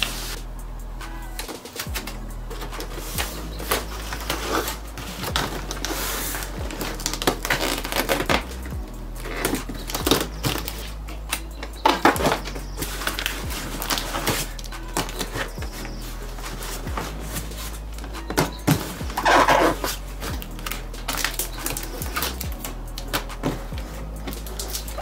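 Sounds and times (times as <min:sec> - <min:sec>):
music: 0:00.0 - 0:25.0.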